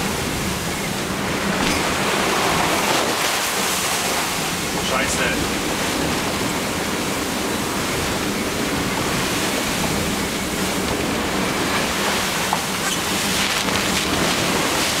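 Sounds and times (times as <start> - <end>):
sea water breaking along hull: 0.0 - 15.0.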